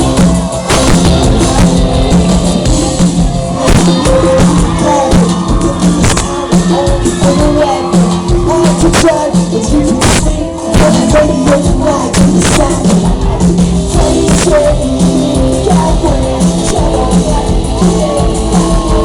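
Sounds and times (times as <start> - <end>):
drums keeping a steady beat: 0.0 - 19.0
person singing: 0.0 - 19.0
pop-rock band playing: 0.0 - 19.0.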